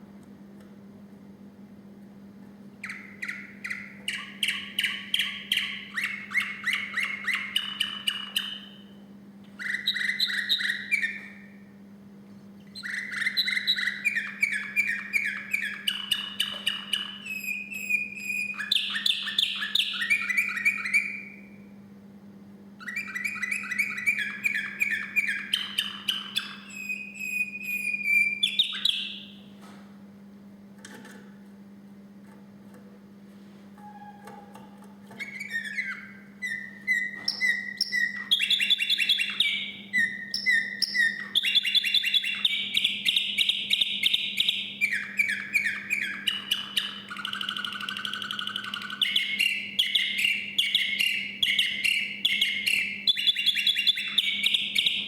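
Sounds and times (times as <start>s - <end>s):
canary singing trills: 2.8s - 11.7s, 12.6s - 21.7s, 22.8s - 29.5s, 33.8s - 55.0s.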